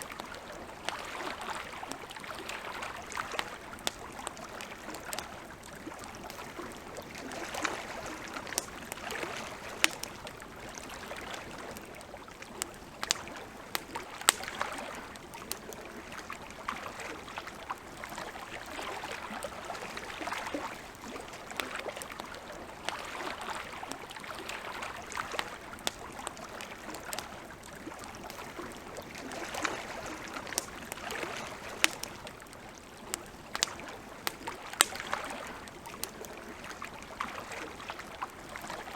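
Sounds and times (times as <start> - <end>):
campfire crackling and popping: 0.0 - 38.9
lake water lapping: 0.0 - 38.9.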